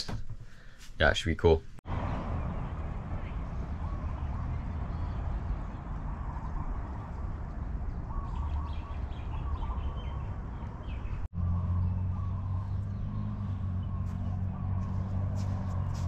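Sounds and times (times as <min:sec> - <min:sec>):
birds chirping: 0:01.9 - 0:16.0
low outdoor rumble: 0:01.9 - 0:16.0.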